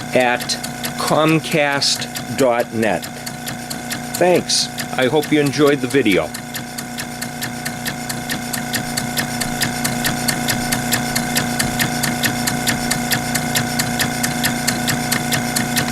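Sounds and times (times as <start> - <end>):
model engine clicking: 0.0 - 15.9
steady hum: 0.0 - 15.9.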